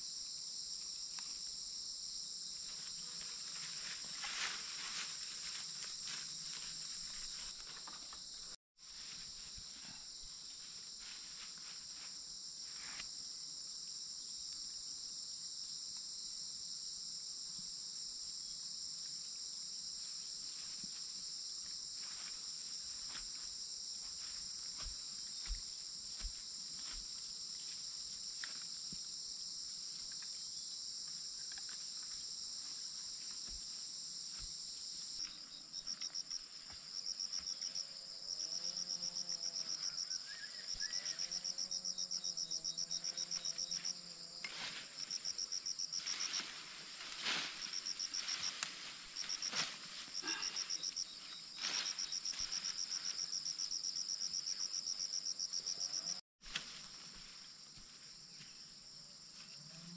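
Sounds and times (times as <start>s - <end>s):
forest insects buzzing: 0.0s - 59.9s.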